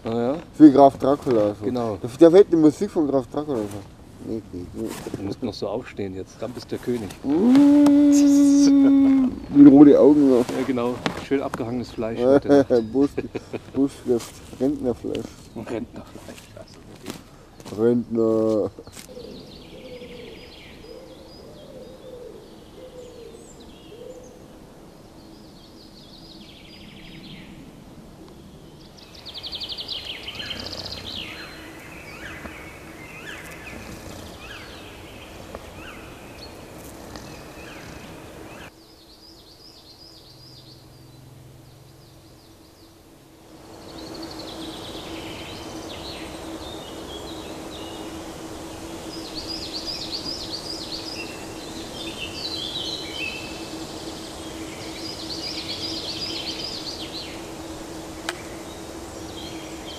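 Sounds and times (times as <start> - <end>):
songbirds singing: 0.0 - 59.9
steady background hiss: 0.0 - 59.9.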